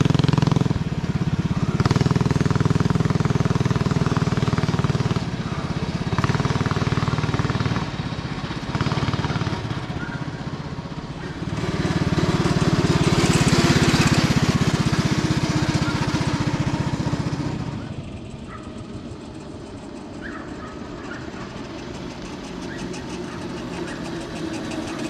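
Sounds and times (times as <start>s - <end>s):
go kart engine running: 0.0s - 25.0s
rushing hiss of passing kart: 0.0s - 25.0s.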